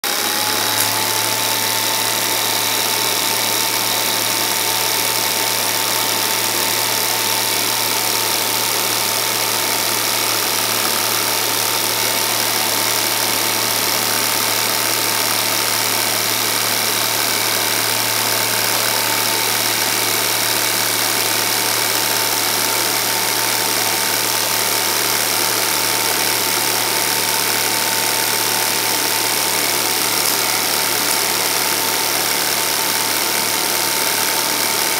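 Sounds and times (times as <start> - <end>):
film projector motor hum: 0.0 - 34.9
high-pitched whine: 0.1 - 34.9.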